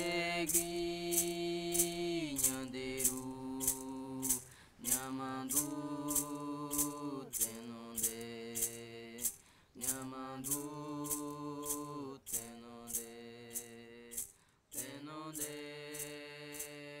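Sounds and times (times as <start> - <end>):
percussive beat: 0.0 - 16.8
person chanting: 0.0 - 17.0.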